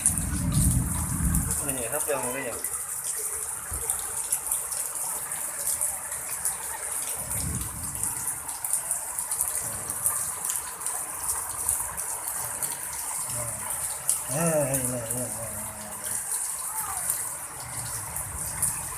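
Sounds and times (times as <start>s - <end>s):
heavy rain pouring: 0.0s - 18.9s.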